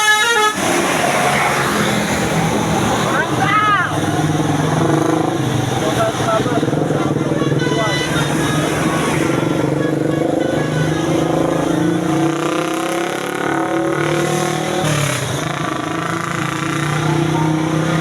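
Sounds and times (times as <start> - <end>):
bus engine accelerating: 0.0 - 18.0.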